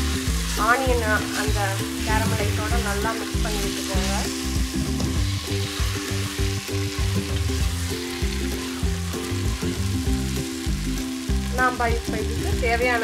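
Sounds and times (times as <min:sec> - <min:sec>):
chicken sizzling in hot oil: 0:00.0 - 0:13.0
soft background music: 0:00.0 - 0:13.0.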